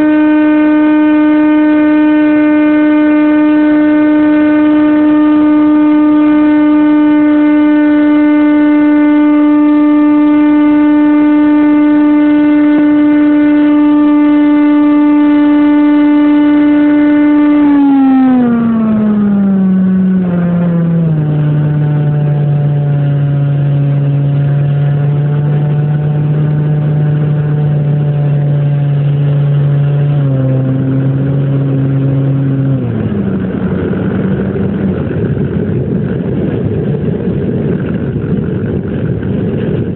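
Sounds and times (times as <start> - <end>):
model airplane motor droning: 0.0 - 39.9.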